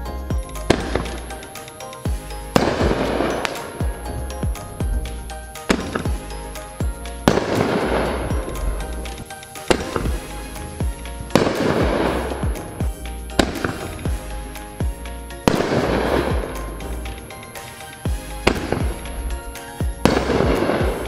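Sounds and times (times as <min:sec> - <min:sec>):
crackling of firework stars: 0:00.0 - 0:21.0
firework shells bursting: 0:00.0 - 0:21.0
music with a steady beat: 0:00.0 - 0:21.0.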